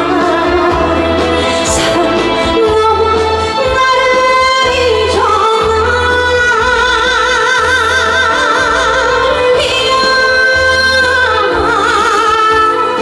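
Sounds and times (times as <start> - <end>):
live band ballad: 0.0 - 13.0
woman singing ballad with vibrato: 0.0 - 13.0.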